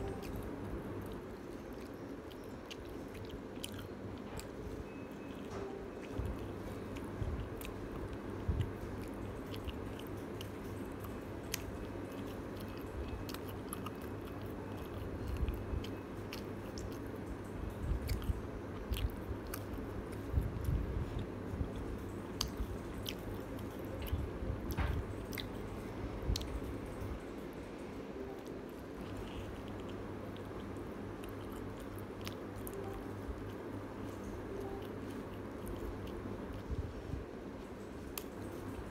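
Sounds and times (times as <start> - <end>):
biting and chewing chicken: 0.0 - 27.6, 28.2 - 38.9
steady low hum: 0.0 - 38.9.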